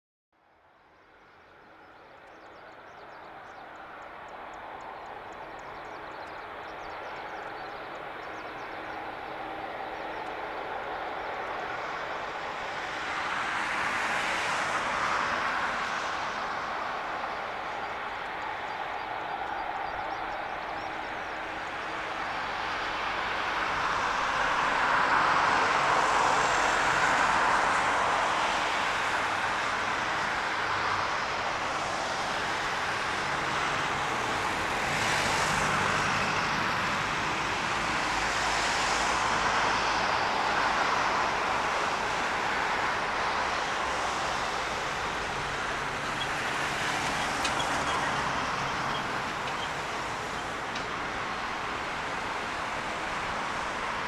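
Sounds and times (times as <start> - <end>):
jet engines roaring: 2.7 - 54.0.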